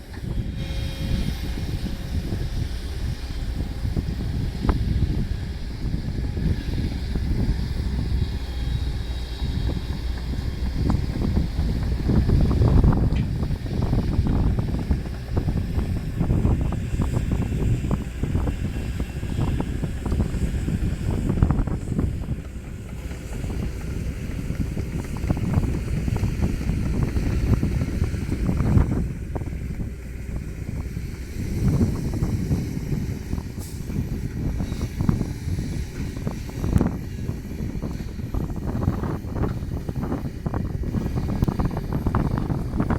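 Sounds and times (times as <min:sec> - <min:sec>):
heavy diesel engine running: 0:00.0 - 0:42.9
wind buffeting microphone: 0:00.0 - 0:42.9.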